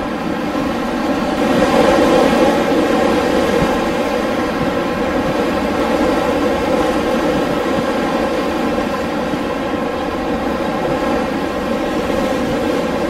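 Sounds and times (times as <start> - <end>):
wind blowing: 0.0 - 13.0.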